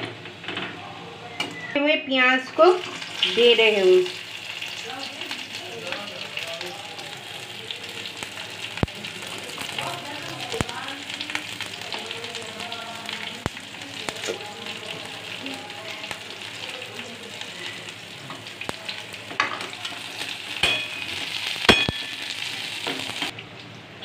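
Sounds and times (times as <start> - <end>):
onions sizzling in hot oil: 2.4 - 23.4.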